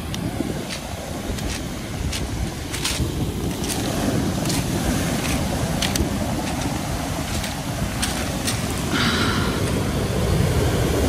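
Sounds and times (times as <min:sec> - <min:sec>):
pebbles clicking in the wash: 0:00.0 - 0:09.1
storm waves breaking on beach: 0:00.0 - 0:11.0.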